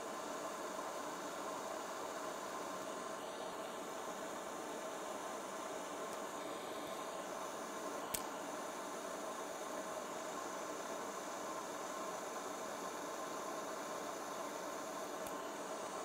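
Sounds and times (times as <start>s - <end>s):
steady hiss with hum: 0.0s - 16.0s.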